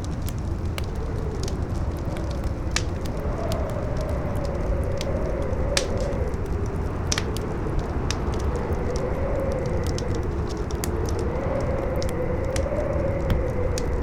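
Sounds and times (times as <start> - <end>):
campfire crackling and popping: 0.0 - 14.0
howling wind: 0.0 - 14.0.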